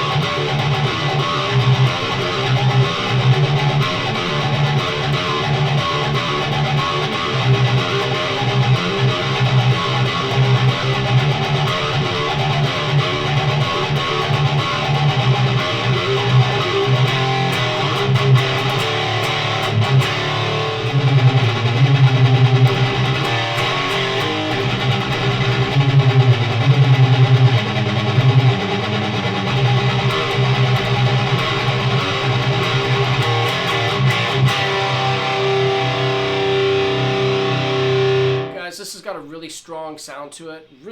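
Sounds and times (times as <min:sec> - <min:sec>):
distorted electric guitar riff: 0:00.0 - 0:38.8.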